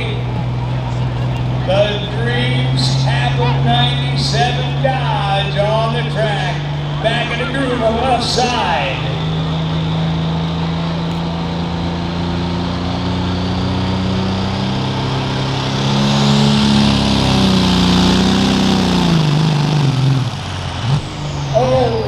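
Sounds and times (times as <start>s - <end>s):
diesel engine under heavy throttle: 0.0s - 22.0s.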